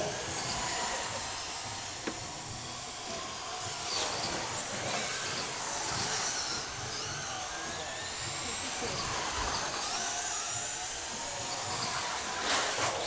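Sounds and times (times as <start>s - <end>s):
radio-control car motor whines: 0.0s - 13.0s.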